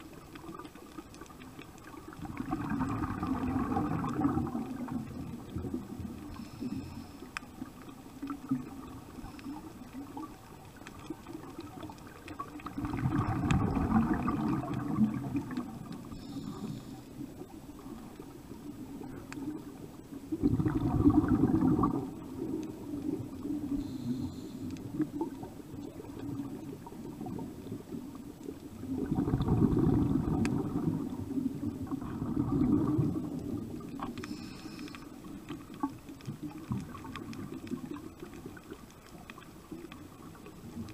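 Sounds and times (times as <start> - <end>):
exhaled bubbles underwater: 0.0 - 40.9.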